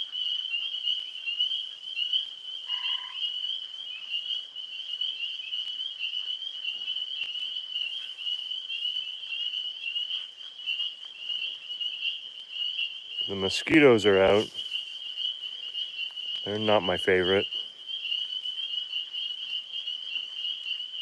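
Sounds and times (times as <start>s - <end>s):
chorus of tree frogs calling: 0.0s - 21.0s.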